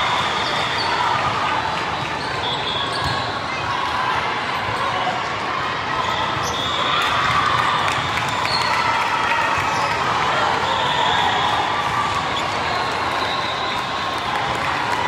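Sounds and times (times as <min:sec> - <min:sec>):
crowd chatter: 0:00.0 - 0:15.0.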